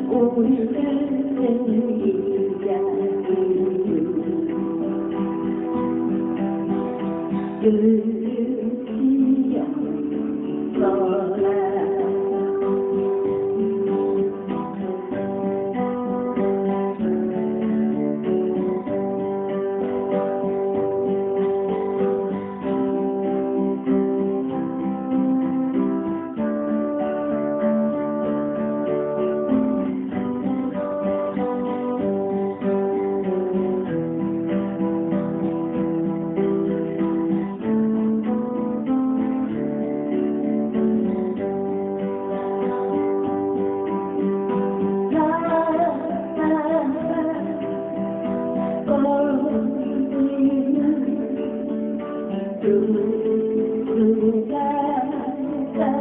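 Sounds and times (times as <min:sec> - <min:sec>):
acoustic guitar strummed and picked: 0:00.0 - 0:56.0.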